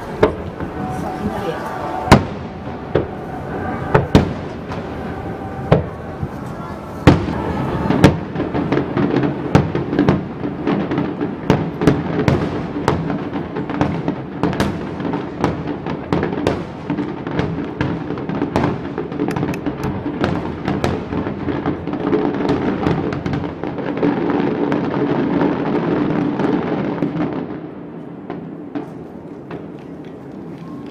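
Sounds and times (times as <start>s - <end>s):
fireworks booming and crackling: 0.0s - 30.9s.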